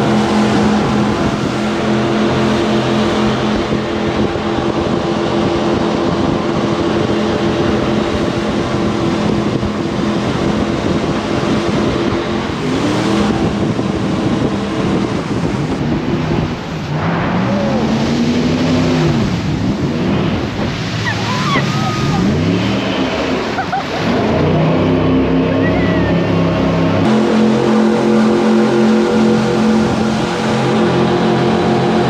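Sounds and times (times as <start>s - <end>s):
jet boat engine running: 0.0s - 32.0s
rushing wind and water: 0.0s - 32.0s.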